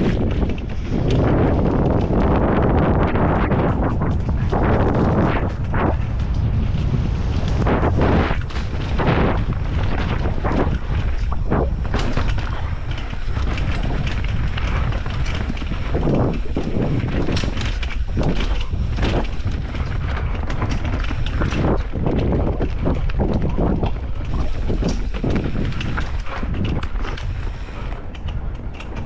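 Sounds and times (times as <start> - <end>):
bike knocks and rattles: 0.0 - 29.0
mountain bike rumbling on dirt: 0.0 - 29.0
wind buffeting microphone: 0.0 - 29.0.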